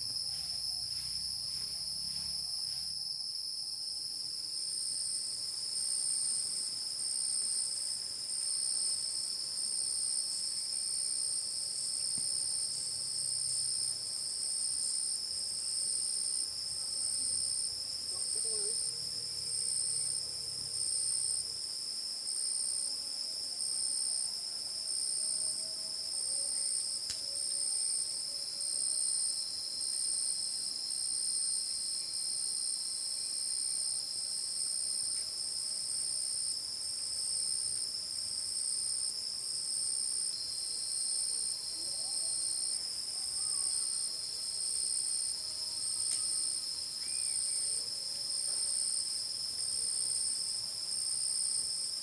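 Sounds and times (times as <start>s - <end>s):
high-pitched insect drone: 0.0s - 21.8s, 22.4s - 52.0s
crickets trilling: 0.0s - 52.0s.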